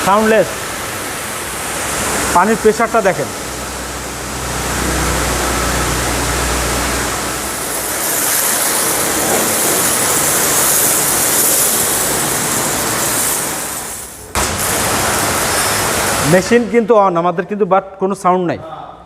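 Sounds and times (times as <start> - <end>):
pressure washer spraying: 0.0 - 16.7.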